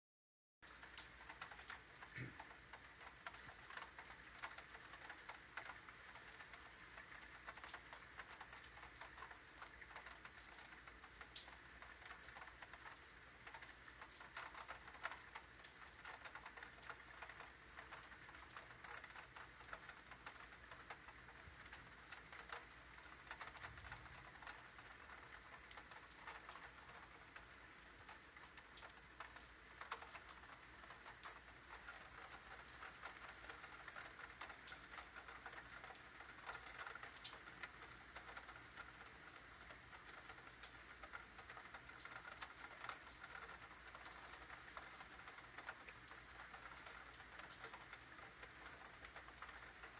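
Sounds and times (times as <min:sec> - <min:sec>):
rain patter: 0:00.6 - 0:49.9.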